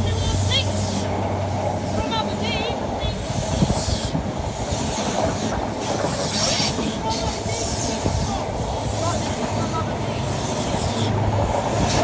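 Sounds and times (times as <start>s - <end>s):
train wheel and rail rush: 0.0s - 12.0s.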